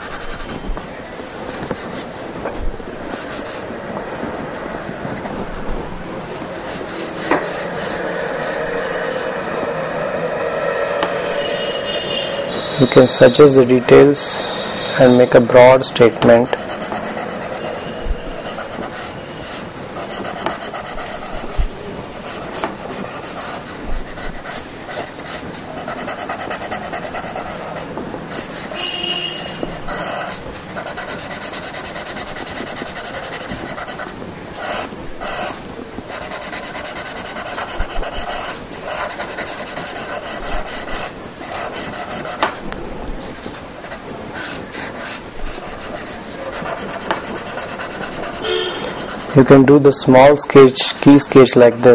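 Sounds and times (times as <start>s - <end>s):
pencil scratching on paper: 0.0s - 0.6s, 1.5s - 2.2s, 3.1s - 3.6s, 6.3s - 9.6s, 11.0s - 50.4s.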